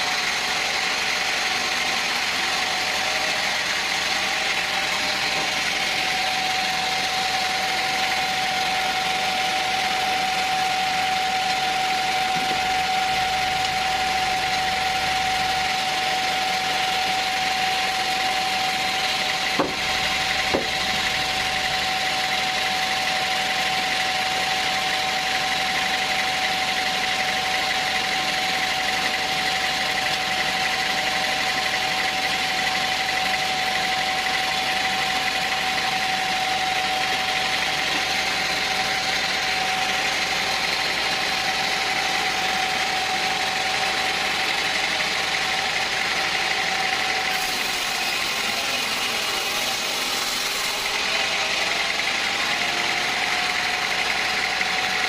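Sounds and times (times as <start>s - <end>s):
sawmill machinery hiss and whine: 0.0s - 55.0s.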